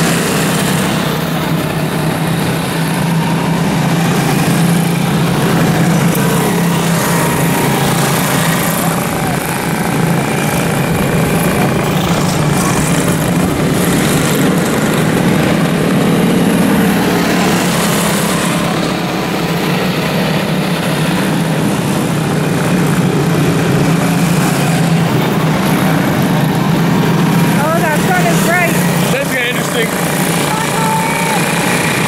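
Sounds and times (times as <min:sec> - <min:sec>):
small race car engines droning: 0:00.0 - 0:32.0.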